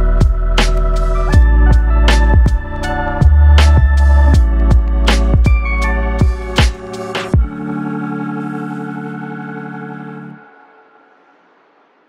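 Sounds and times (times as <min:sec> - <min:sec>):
organ-like chord: 0:00.0 - 0:10.9.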